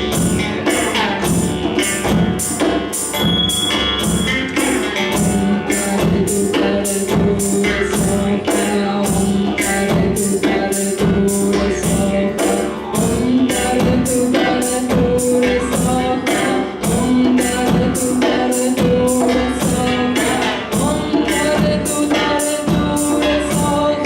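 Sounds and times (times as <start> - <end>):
hand drums beating: 0.0 - 24.0.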